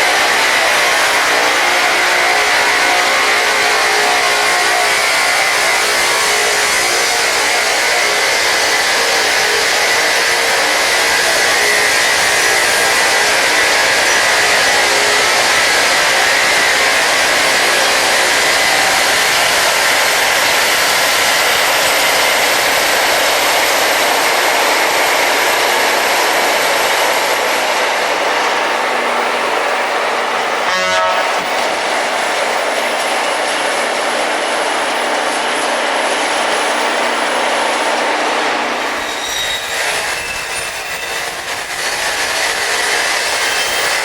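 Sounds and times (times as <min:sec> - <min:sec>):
rail grinding wheels: 0:00.0 - 0:44.0.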